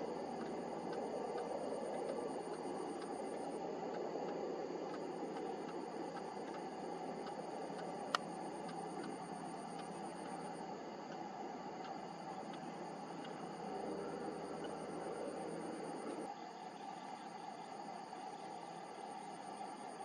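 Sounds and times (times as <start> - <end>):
low background rush: 0.0 - 20.0.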